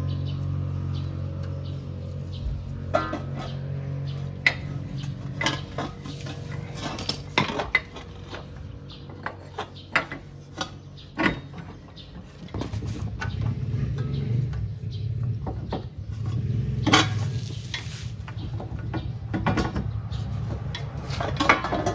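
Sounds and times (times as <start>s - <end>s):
metal tools clinking: 0.9s - 21.9s.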